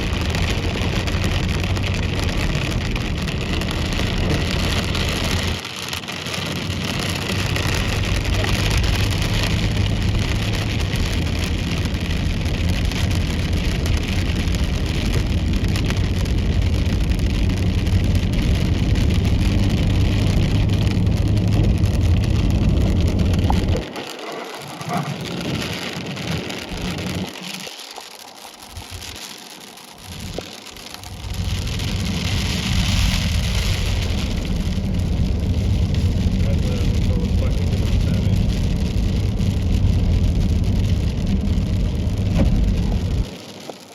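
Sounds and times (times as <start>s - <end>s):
low rumble: 0.0s - 5.6s, 6.6s - 27.6s, 29.8s - 43.4s
hail and rain pelting a car: 0.0s - 43.9s.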